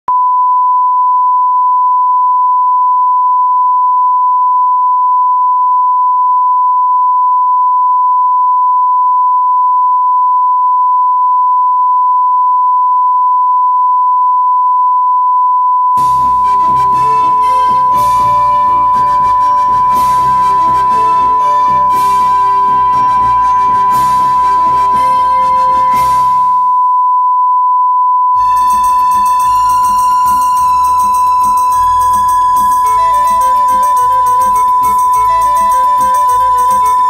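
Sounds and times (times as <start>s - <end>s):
steady test tone beep: 0.1s - 37.0s.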